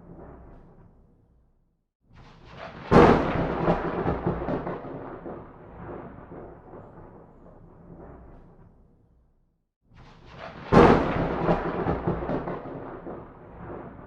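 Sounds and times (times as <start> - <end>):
thunder crack and rolling rumble: 0.0 - 1.1, 2.4 - 9.2, 10.0 - 14.0.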